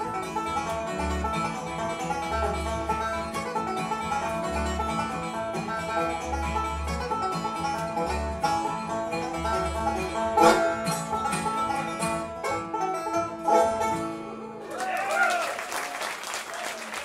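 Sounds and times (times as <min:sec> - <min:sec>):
plucked upright bass: 0:00.0 - 0:14.6
picked banjo notes: 0:00.0 - 0:14.8.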